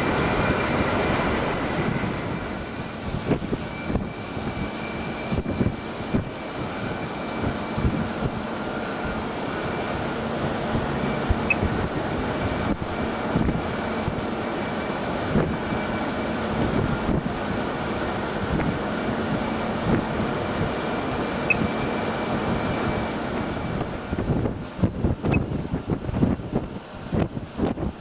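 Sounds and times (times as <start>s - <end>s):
wind on microphone: 0.0s - 14.4s, 15.1s - 28.0s.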